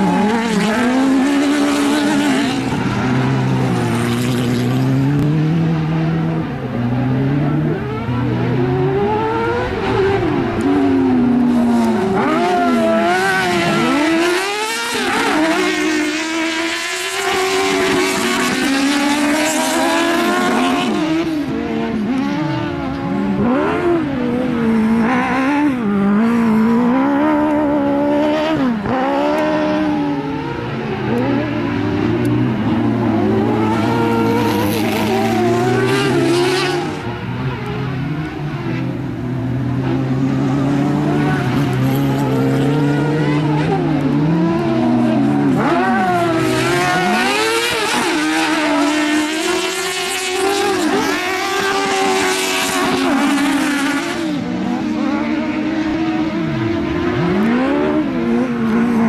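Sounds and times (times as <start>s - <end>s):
buggy engines revving: 0.0s - 59.0s.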